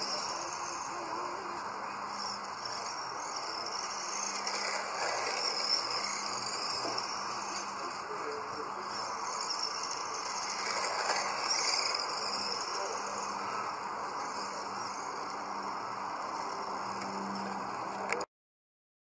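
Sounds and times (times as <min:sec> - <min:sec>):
radio-controlled cars motor whine: 0:00.0 - 0:18.3.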